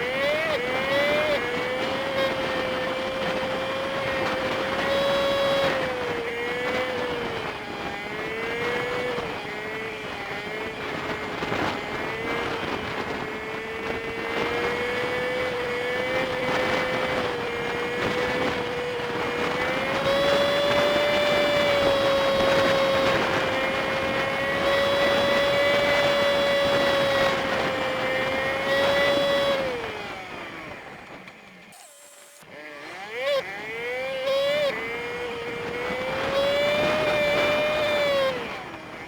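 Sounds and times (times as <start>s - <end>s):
small motorcycle engine humming: 0.0s - 39.0s
wind and road noise: 0.0s - 39.0s.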